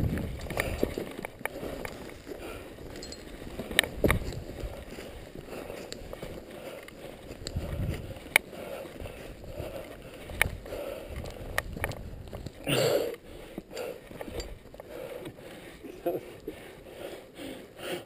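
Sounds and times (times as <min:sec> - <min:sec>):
bike clicks and knocks: 0:00.0 - 0:05.0, 0:05.6 - 0:15.4
bike rolling over rocky ground: 0:00.0 - 0:15.8.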